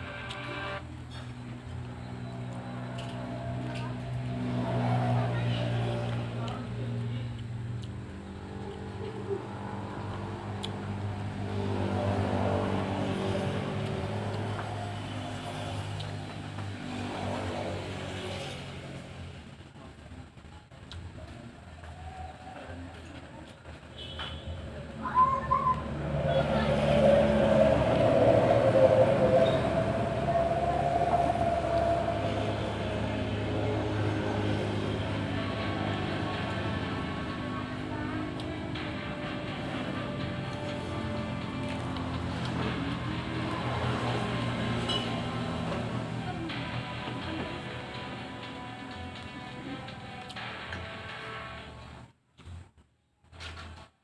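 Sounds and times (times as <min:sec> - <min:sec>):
engine humming: 0:00.0 - 0:22.0, 0:22.7 - 0:52.2.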